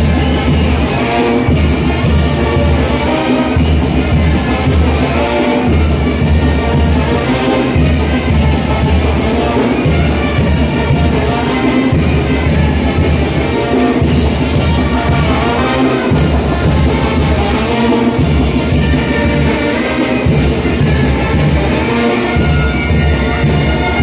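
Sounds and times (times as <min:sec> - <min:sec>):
brass band playing dance music: 0:00.0 - 0:24.0.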